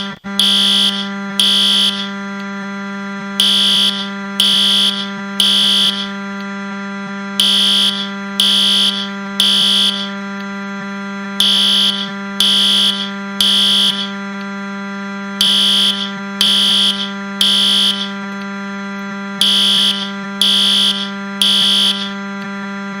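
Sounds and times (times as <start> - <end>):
fire alarm beeping: 0.0 - 22.8
steady low buzz: 0.0 - 23.0.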